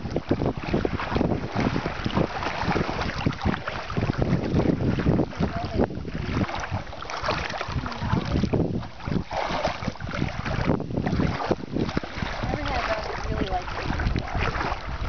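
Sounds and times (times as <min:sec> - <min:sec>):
wind rumble on microphone: 0:00.0 - 0:15.0
dog splashing through water: 0:00.6 - 0:15.0.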